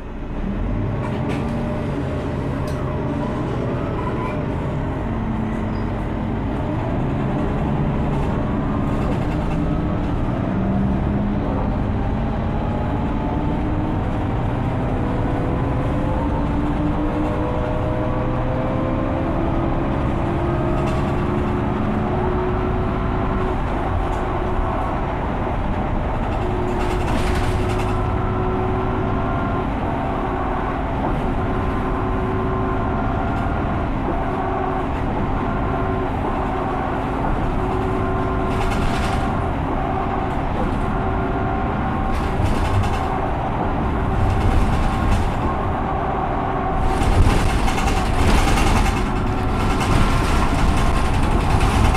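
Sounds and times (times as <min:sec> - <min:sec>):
bus engine: 0:00.0 - 0:51.9.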